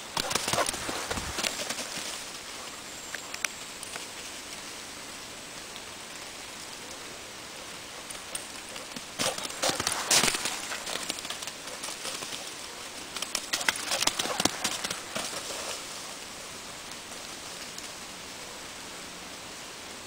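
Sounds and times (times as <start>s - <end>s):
dog paws crunching through leaves: 0.0s - 18.6s
steady hiss: 0.0s - 20.0s.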